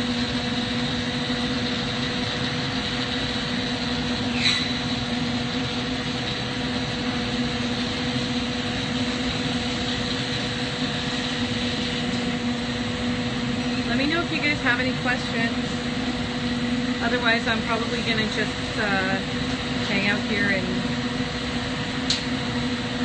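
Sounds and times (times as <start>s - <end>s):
gas torch hissing: 0.0s - 23.0s
mechanical hum: 0.0s - 23.0s.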